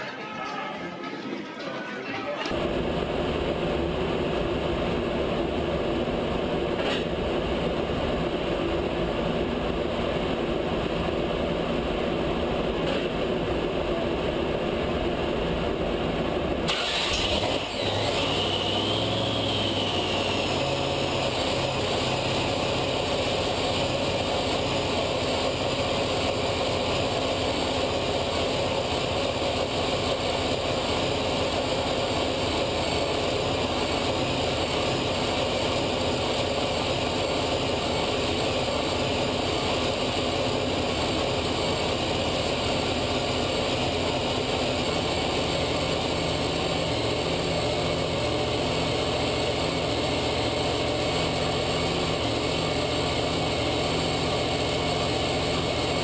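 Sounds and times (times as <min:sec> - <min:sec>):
engine idling: 0:02.5 - 0:56.0.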